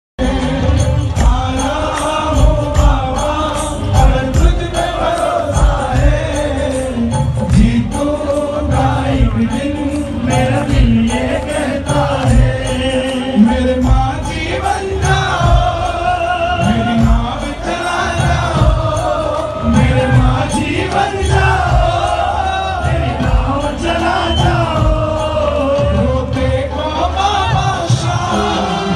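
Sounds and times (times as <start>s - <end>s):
choir-like chanting vocals: 0.2s - 28.9s
steady low drum beat: 0.2s - 28.9s.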